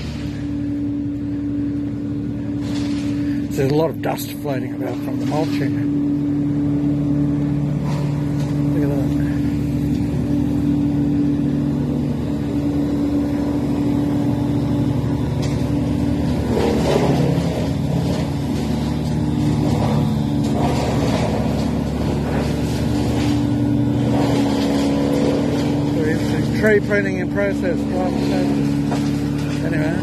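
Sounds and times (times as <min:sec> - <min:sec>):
wood chipper engine drone: 0:00.0 - 0:30.0.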